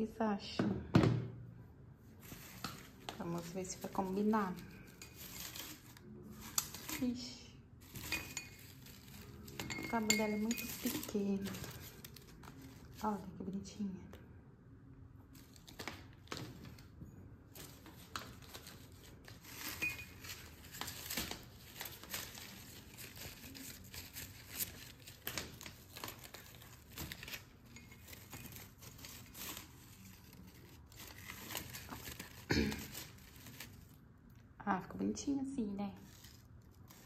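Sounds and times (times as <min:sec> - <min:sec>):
rustling of artificial flowers: 0:01.8 - 0:13.9, 0:15.2 - 0:37.0.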